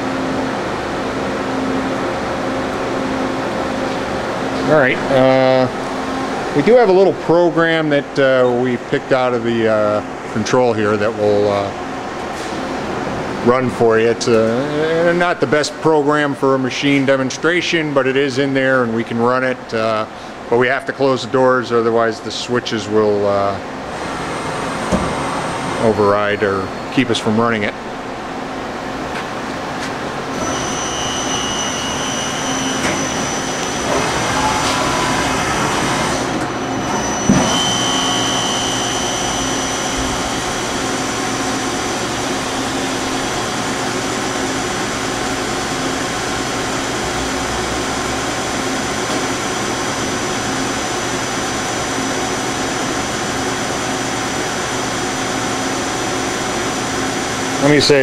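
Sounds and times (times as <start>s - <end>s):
lathe spindle hum and whine: 0.0s - 58.0s.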